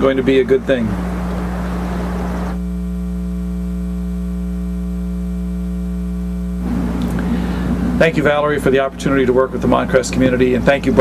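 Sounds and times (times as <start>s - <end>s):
bright many-toned buzz: 0.0s - 11.0s
low electrical mains hum: 0.0s - 11.0s.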